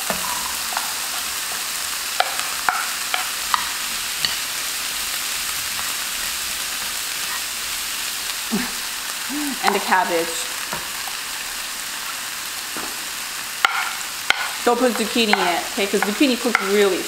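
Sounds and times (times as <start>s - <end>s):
onions sizzling in a frying pan: 0.0s - 17.0s.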